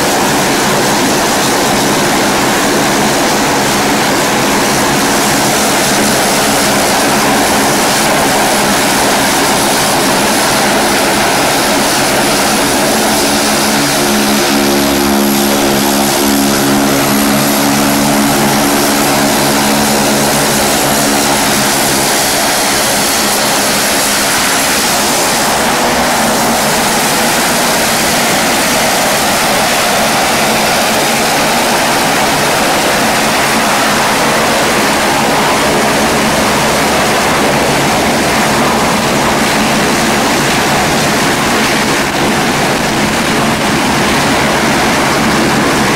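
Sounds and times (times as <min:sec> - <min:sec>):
propeller drone: 0:00.0 - 0:45.9
thin high whine: 0:00.0 - 0:45.9.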